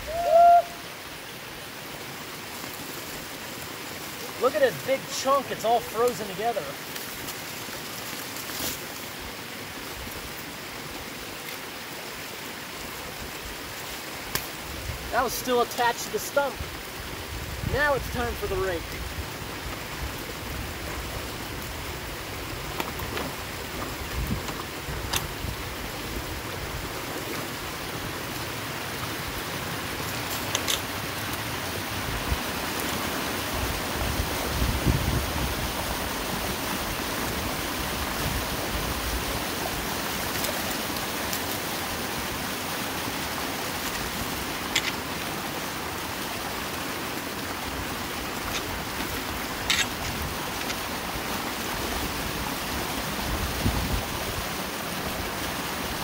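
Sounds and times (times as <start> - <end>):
water rushing through a pipe: 0.0 - 56.0.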